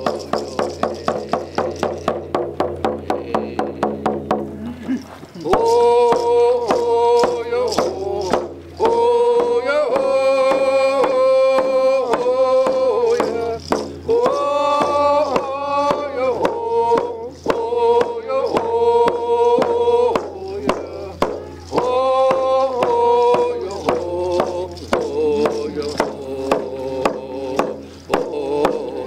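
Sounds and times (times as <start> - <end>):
man singing long held notes: 0.0 - 2.2, 2.8 - 4.8, 5.4 - 29.0
hand drum steady beat: 0.0 - 29.0.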